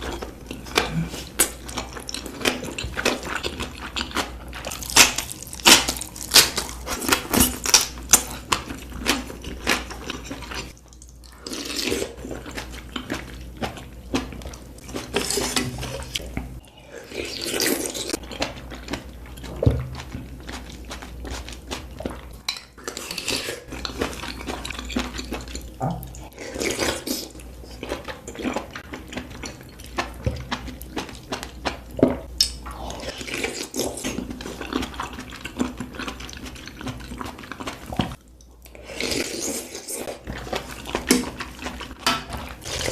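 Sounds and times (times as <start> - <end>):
chewing: 0.0 - 42.9.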